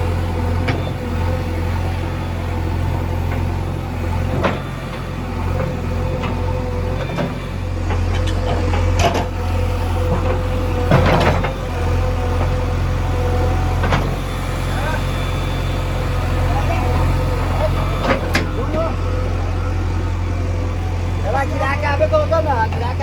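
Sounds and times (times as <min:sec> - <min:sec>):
diesel engine running under load: 0:00.0 - 0:23.0.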